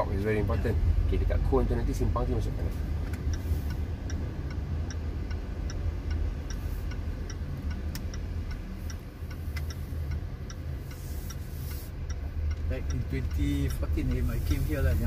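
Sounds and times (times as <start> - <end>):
car engine hum: 0.0 - 15.0
road noise inside car: 0.0 - 15.0
turn signal ticking: 0.0 - 15.0.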